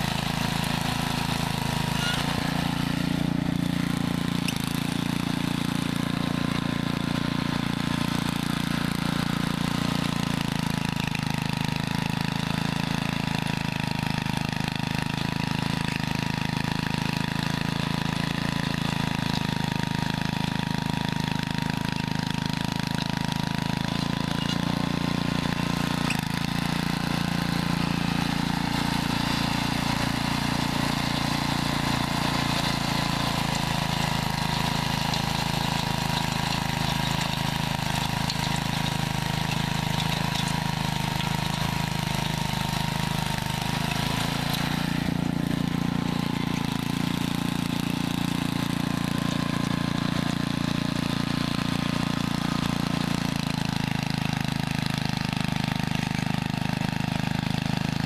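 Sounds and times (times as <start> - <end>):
tiller engine running under load: 0.0 - 58.0.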